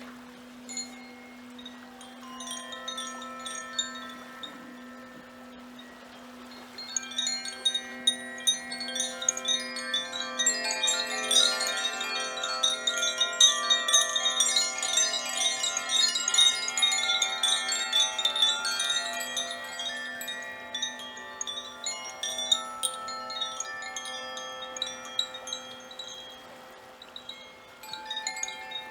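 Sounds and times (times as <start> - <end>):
crystal singing bowls ringing: 0.0 - 28.9
high chime tinkling: 0.0 - 28.9.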